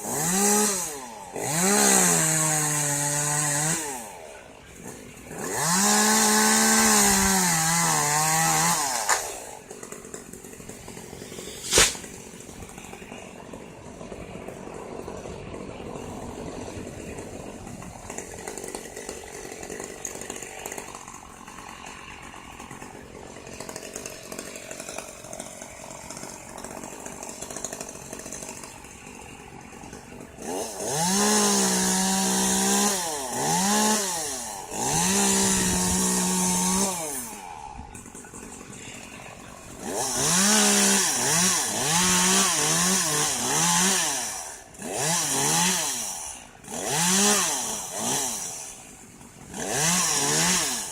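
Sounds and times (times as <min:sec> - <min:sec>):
chainsaw revving: 0:00.0 - 0:50.9.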